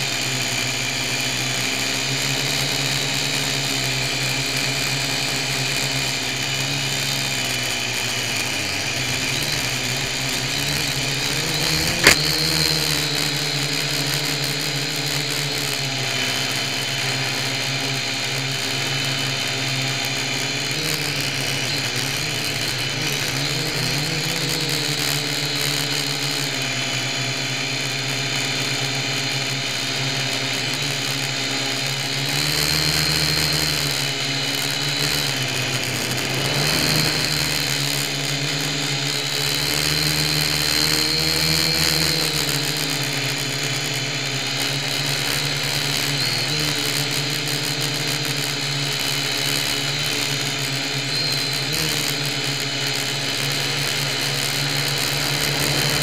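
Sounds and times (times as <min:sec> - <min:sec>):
toy drone motors whining: 0:00.0 - 0:56.0.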